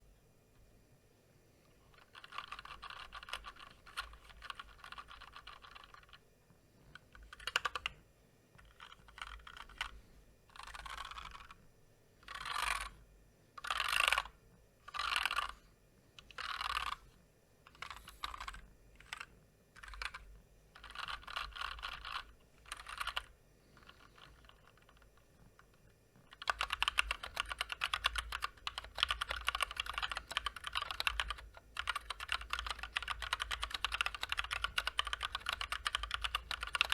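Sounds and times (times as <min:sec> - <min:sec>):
mechanical keyboard typing: 0:01.9 - 0:06.2, 0:07.0 - 0:08.0, 0:08.6 - 0:11.6, 0:12.2 - 0:13.0, 0:13.6 - 0:15.6, 0:16.2 - 0:17.0, 0:17.7 - 0:36.9.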